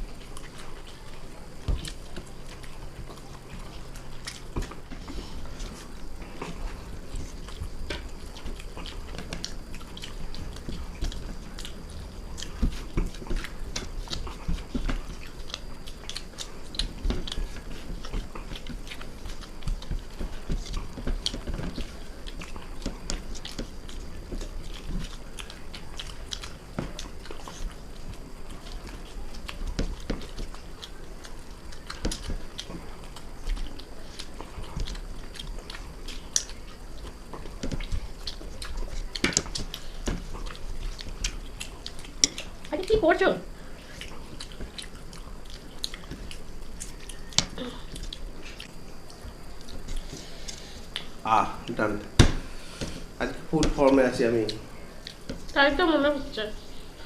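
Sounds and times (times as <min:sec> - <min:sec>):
people chewing food: 0:00.0 - 0:57.0.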